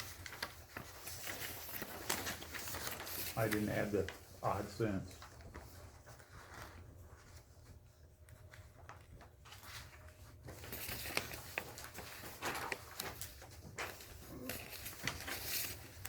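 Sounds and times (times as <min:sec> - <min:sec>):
low electrical hum: 0:00.0 - 0:16.0
papers rustling: 0:00.0 - 0:16.0.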